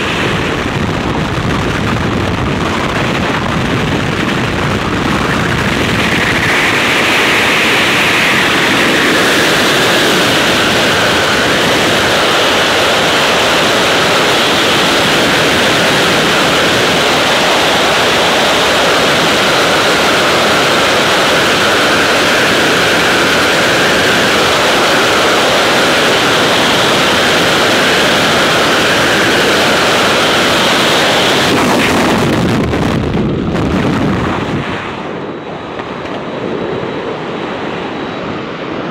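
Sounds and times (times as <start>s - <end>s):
wind roaring over microphone: 0.0s - 38.9s.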